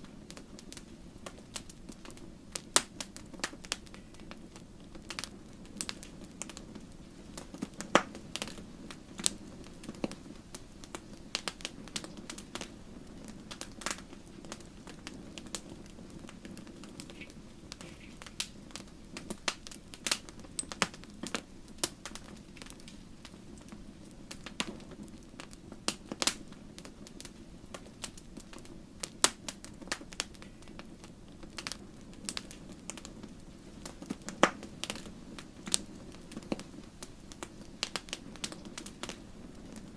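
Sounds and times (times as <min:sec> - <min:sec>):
logs crackling and popping: 0:00.0 - 0:39.9
rush of flames: 0:00.0 - 0:39.9.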